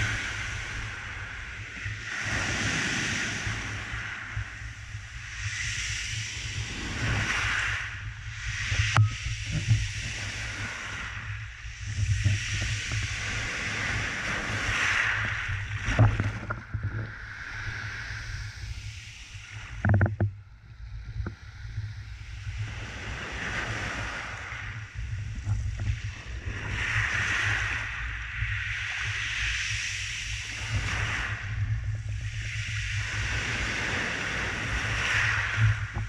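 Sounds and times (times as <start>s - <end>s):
waves washing over pebbles: 0.0s - 5.3s, 6.0s - 18.3s, 22.5s - 36.0s.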